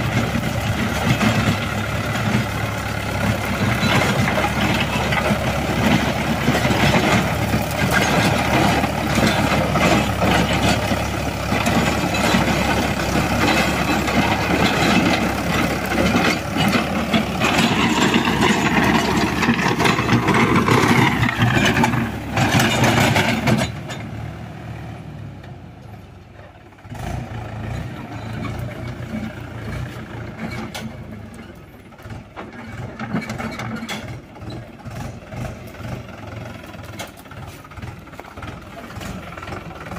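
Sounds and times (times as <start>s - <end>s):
rotavator churning dry soil: 0.0s - 24.4s, 26.9s - 39.9s
tractor diesel engine under load: 0.0s - 39.9s.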